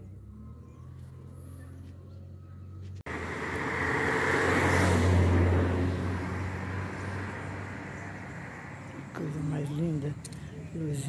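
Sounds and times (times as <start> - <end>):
car driving past: 0.0 - 9.2.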